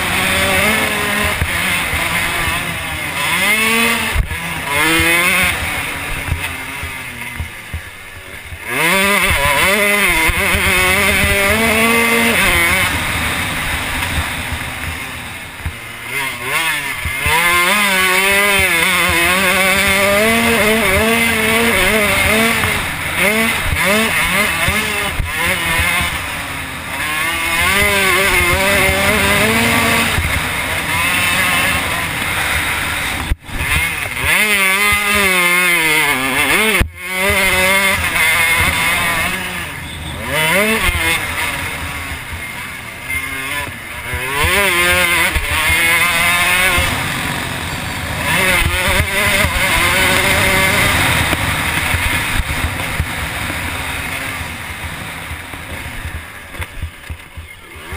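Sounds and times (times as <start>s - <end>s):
motocross bike engine: 0.0s - 57.9s.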